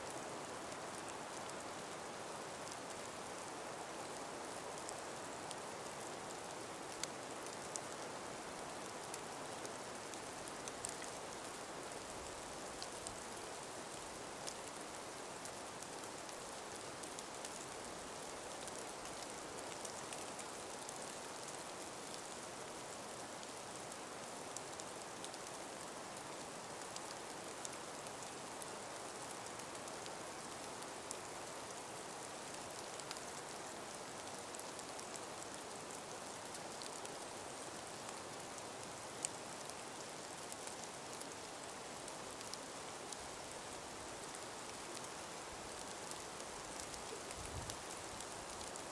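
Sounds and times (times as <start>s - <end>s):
breeze through trees: 0.0s - 48.9s
faint ticks: 8.9s - 22.8s, 23.4s - 48.9s.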